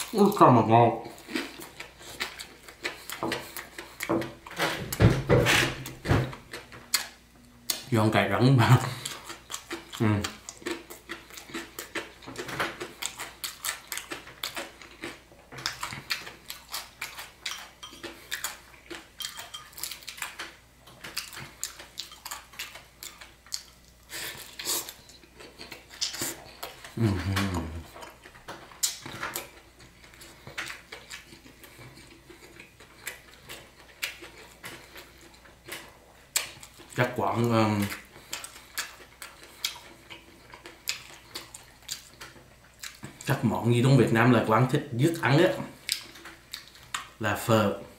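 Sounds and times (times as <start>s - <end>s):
chewing crisp noodles: 1.0s - 4.1s, 8.8s - 43.4s, 45.1s - 47.2s.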